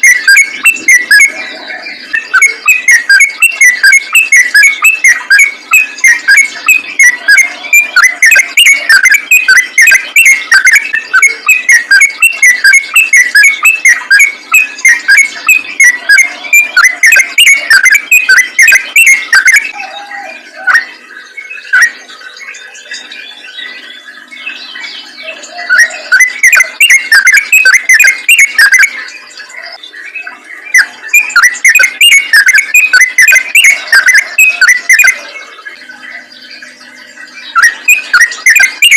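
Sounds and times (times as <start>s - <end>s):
bulbul singing bubbly whistles: 0.0s - 38.9s
soft scattered bird chirps: 0.0s - 38.9s.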